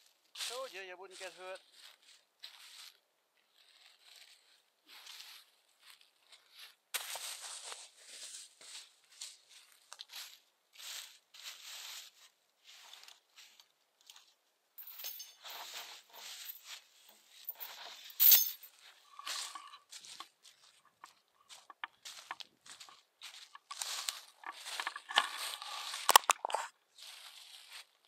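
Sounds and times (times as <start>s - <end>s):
footsteps crunching dry leaves: 0.4s - 13.6s, 15.4s - 28.0s.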